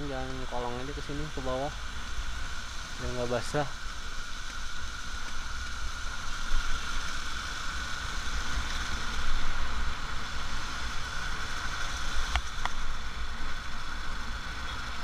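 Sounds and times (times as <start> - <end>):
motorcycle engine and tyre noise: 0.0 - 15.0.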